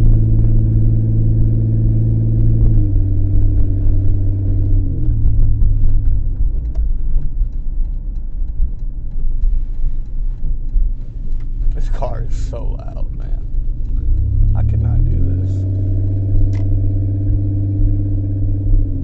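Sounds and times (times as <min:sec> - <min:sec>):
loud car engine and exhaust droning: 0:00.0 - 0:19.0.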